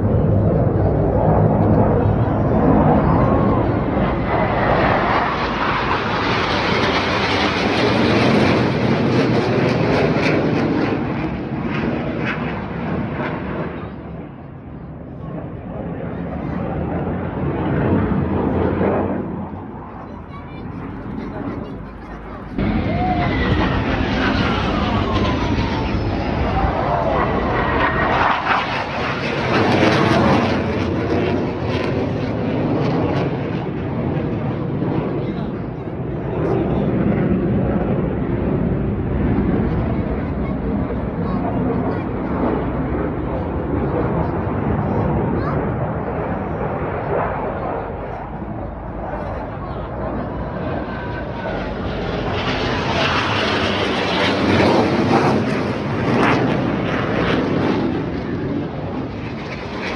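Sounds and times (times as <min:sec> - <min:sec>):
jet engines roaring past: 0:00.0 - 0:59.9.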